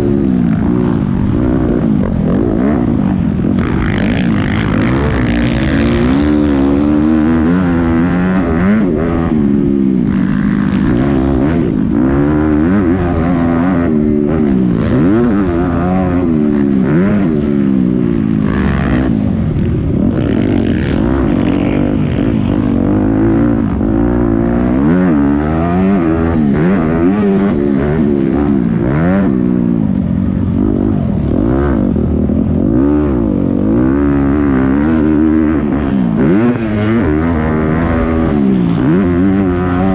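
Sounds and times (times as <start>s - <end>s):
motocross motorcycles revving: 0.0s - 39.9s.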